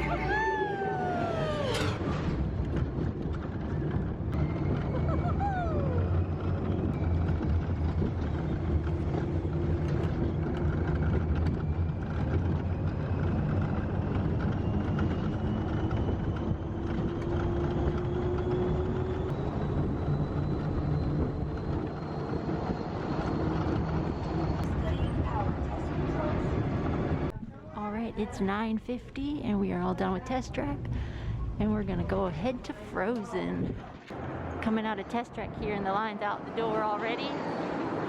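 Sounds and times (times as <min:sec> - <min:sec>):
ride vehicle rumbling on track: 0:00.0 - 0:38.0.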